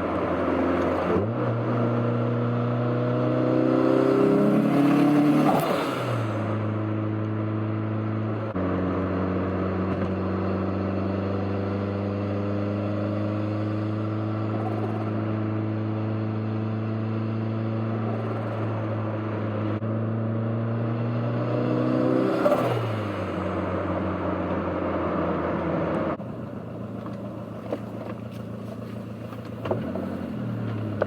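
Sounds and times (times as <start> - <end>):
car engine driving: 0.0 - 31.0.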